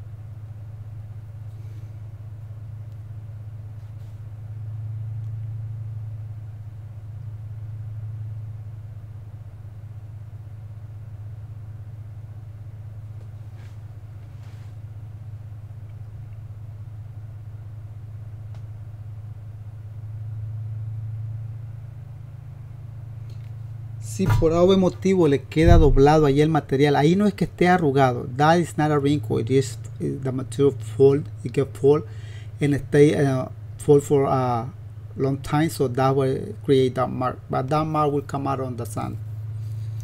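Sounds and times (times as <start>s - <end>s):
low machine hum: 0.0s - 40.0s.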